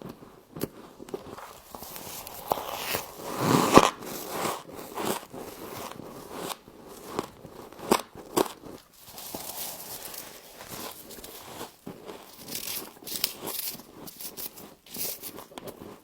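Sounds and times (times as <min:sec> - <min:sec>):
biting and chewing crunchy frost: 0:00.0 - 0:16.0.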